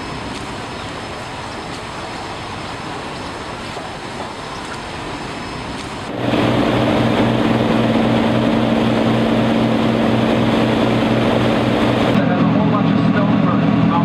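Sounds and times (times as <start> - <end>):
boat engine pulsing hum: 0.0 - 14.0
steady rushing noise: 0.0 - 14.0.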